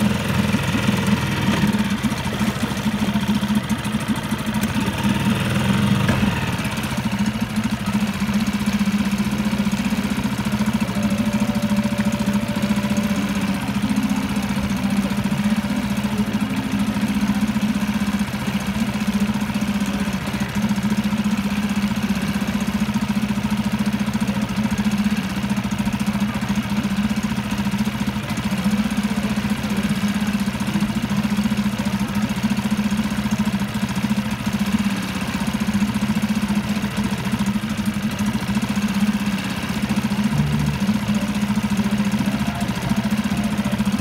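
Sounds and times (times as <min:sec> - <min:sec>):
outboard motor running steadily: 0:00.0 - 0:44.0.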